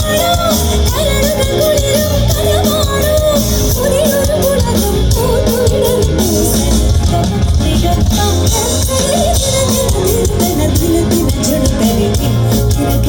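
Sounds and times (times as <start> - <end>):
live band music: 0.0 - 13.0
woman singing: 0.0 - 13.0.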